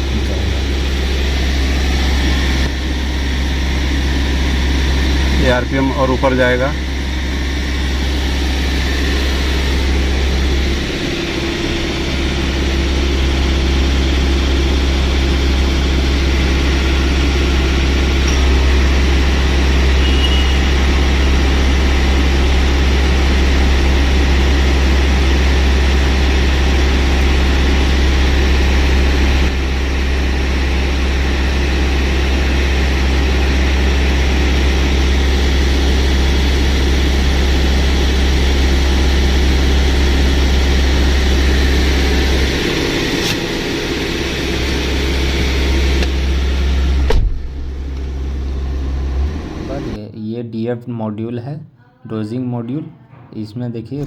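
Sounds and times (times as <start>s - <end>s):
diesel engine running at raised revs: 0.0s - 50.0s.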